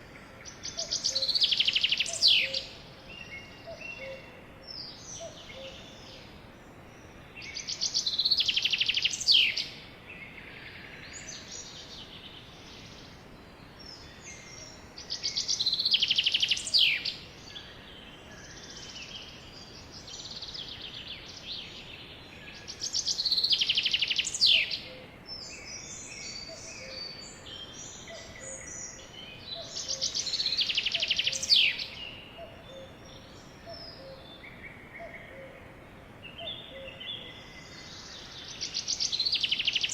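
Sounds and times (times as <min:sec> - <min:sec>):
songbird trilling song: 0:00.0 - 0:39.9.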